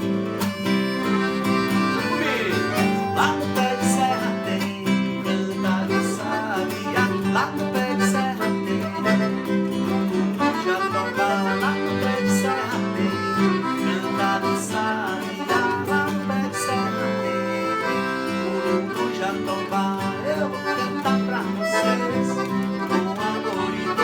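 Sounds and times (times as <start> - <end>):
accordion: 0.0 - 24.0
guitar: 0.0 - 24.0.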